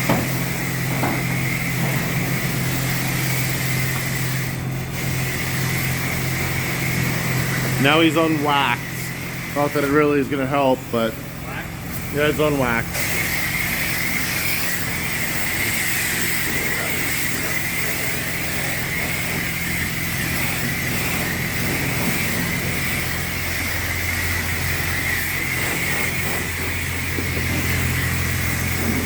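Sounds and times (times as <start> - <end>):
pressure washer spraying: 0.0 - 29.0
steady low hum: 0.0 - 29.0.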